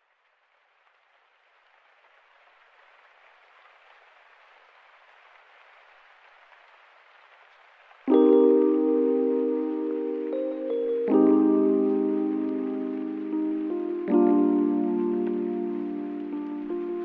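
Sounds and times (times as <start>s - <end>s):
faint rain hiss: 0.0s - 17.0s.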